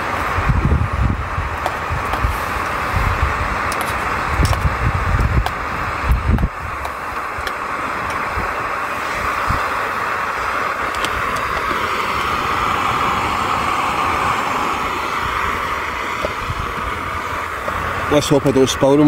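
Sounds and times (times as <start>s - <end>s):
gas stove burner hissing: 0.0s - 19.0s.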